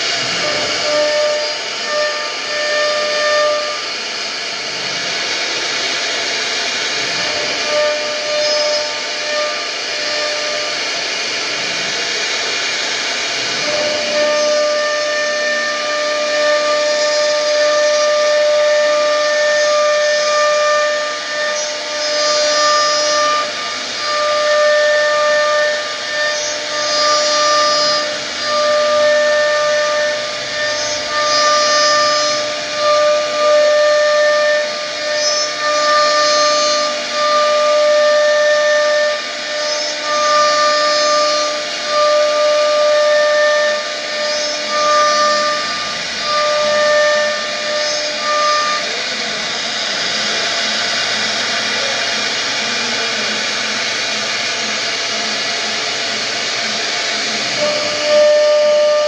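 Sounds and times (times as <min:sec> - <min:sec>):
bit cutting wood hissing: 0:00.0 - 0:59.0
router spindle whining: 0:00.0 - 0:59.0.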